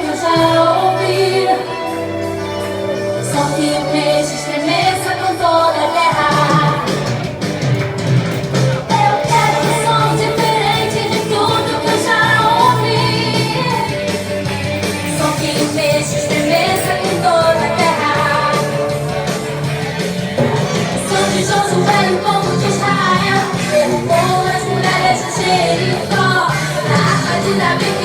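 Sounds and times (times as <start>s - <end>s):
gospel singing with band: 0.0s - 28.0s.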